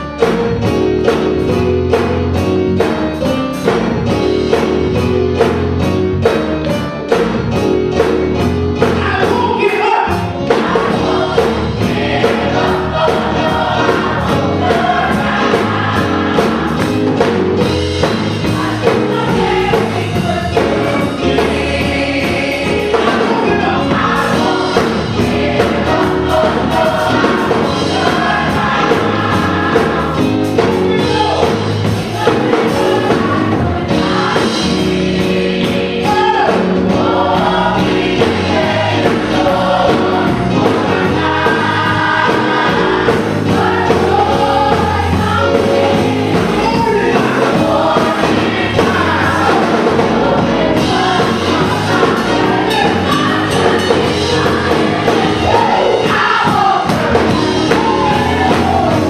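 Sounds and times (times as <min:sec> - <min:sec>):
gospel choir singing: 0:00.0 - 0:59.0
live band playing: 0:00.0 - 0:59.0.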